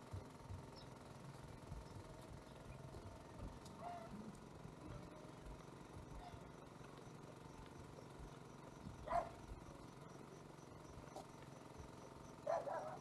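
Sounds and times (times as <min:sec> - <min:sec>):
faint low rumble: 0:00.0 - 0:13.0.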